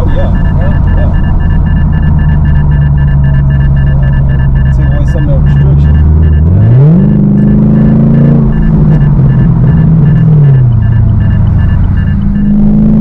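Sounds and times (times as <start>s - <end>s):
car engine revving: 0.0s - 13.0s
steady repeating beep: 0.0s - 13.0s.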